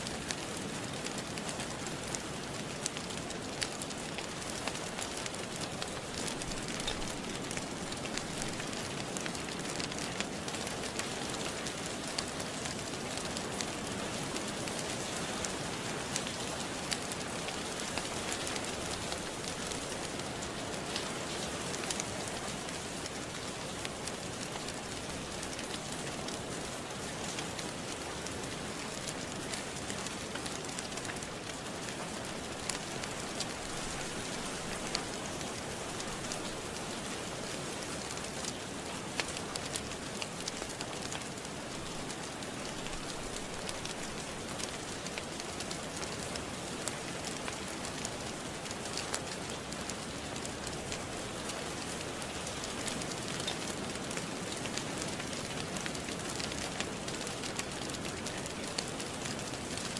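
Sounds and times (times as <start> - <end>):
fireplace fire crackling: 0.0 - 59.9
steady rain falling: 0.0 - 59.9.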